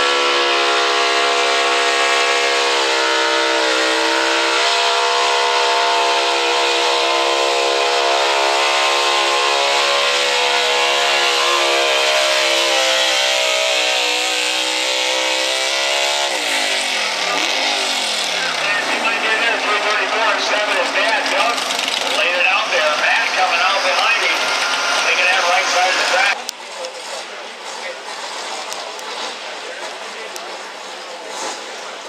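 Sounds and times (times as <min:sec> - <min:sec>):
truck engine at high revs: 0:00.0 - 0:32.0.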